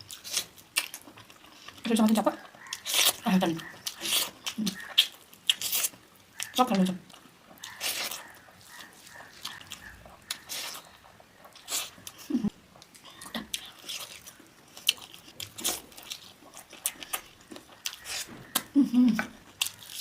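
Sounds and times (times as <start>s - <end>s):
close biting and chewing: 0.0s - 6.6s, 7.5s - 20.0s.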